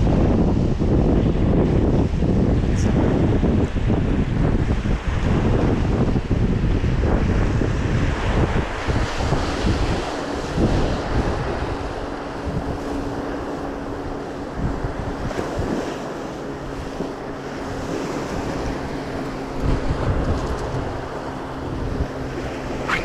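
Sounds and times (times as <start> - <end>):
surf washing on a beach: 0.0 - 23.0
wind buffeting microphone: 0.0 - 23.0.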